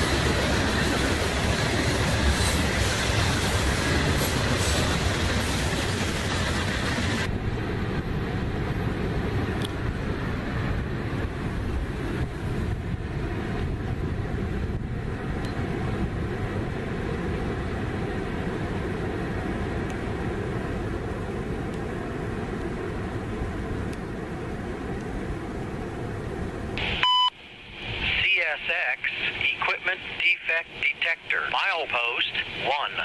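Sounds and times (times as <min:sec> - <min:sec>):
freight train rolling on rails: 0:00.0 - 0:26.8.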